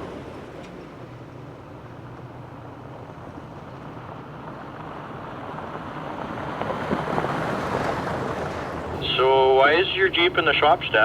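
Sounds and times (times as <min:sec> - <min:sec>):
car engine and tyre hum: 0:00.0 - 0:11.0.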